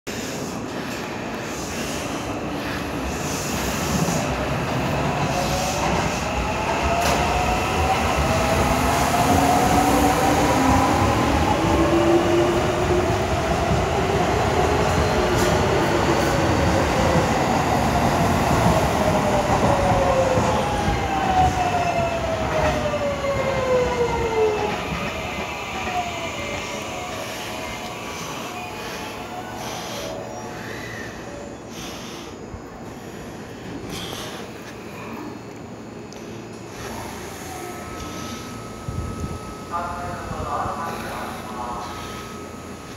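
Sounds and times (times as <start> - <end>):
train wheels rumbling on rail: 0.1 - 42.9.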